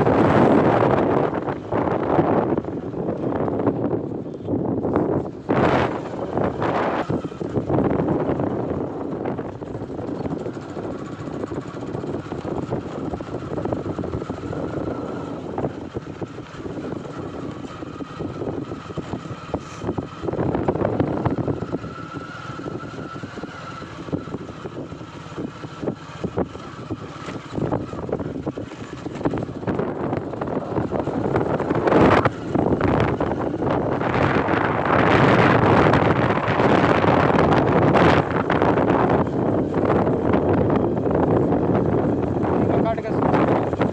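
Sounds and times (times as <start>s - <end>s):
motorcycle running: 0.0s - 43.9s
wind rushing over microphone: 0.0s - 43.9s.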